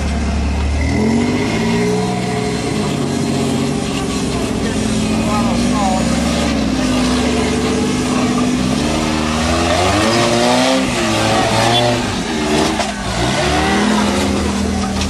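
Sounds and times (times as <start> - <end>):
engine revving under load: 0.0 - 15.0.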